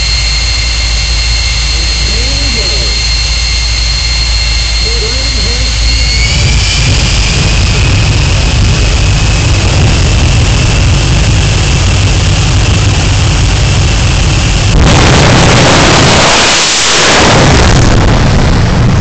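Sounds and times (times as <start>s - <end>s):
jet engine blast: 0.0s - 19.0s
jet engine whine: 0.0s - 19.0s.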